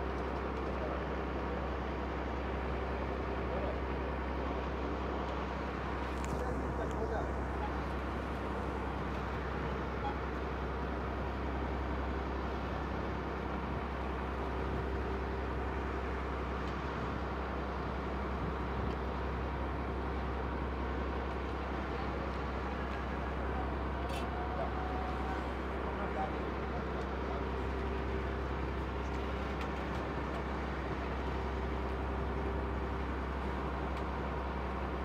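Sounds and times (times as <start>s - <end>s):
diesel engine humming: 0.0s - 35.0s.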